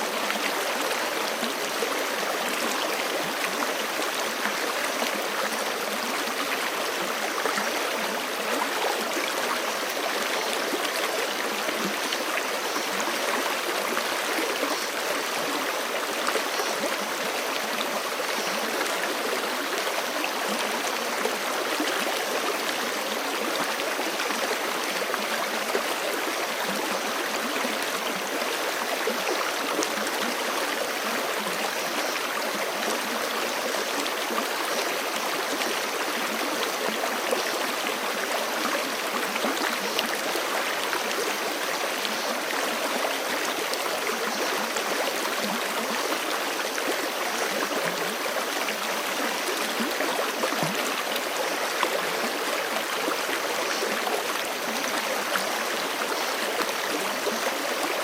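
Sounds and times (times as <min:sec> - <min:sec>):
creek flowing over rocks: 0:00.0 - 0:58.0.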